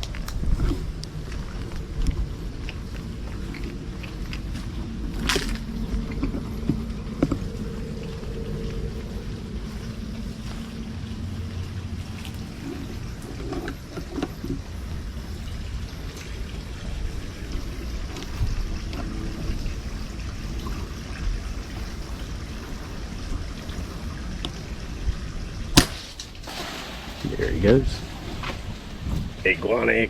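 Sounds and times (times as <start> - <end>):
low outdoor background rumble: 0.0 - 30.0.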